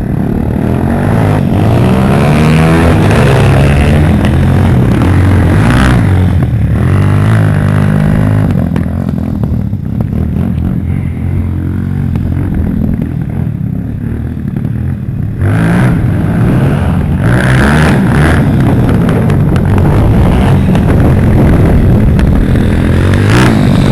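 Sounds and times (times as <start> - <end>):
pit bike engines revving: 0.0 - 23.9.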